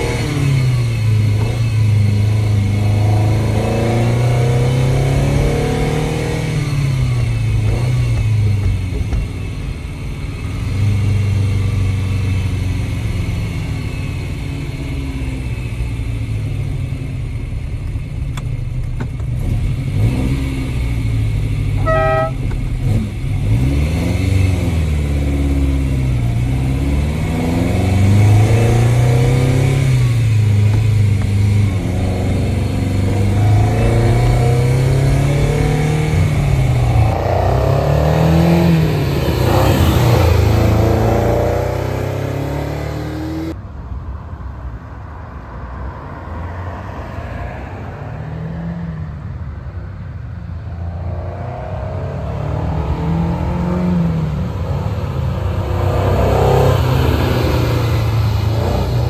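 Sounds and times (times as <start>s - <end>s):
car engine accelerating: 0.0s - 43.6s, 45.8s - 59.0s.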